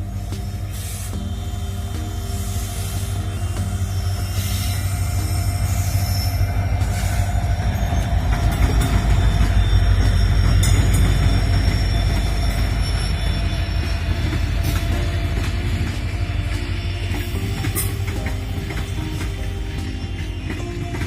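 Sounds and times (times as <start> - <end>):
high wheel squeal: 0.0 - 21.0
train rumbling on rails: 0.0 - 21.0.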